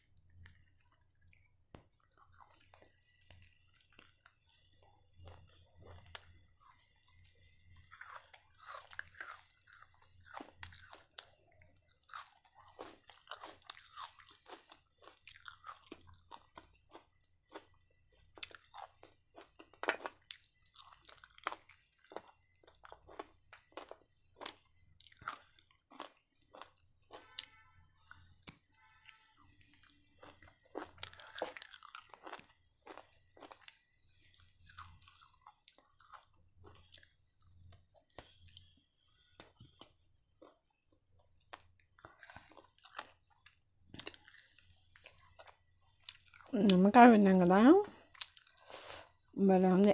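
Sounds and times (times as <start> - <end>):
crispy food crunching: 0.1 - 46.8, 47.9 - 49.2
person chewing: 0.2 - 27.7, 28.3 - 40.6, 41.4 - 46.8, 48.0 - 49.2.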